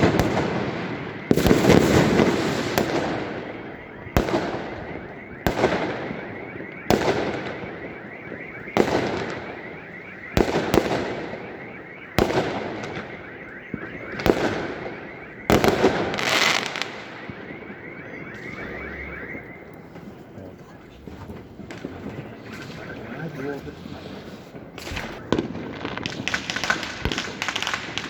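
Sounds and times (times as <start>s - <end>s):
fireworks bangs with echo: 0.0s - 28.0s.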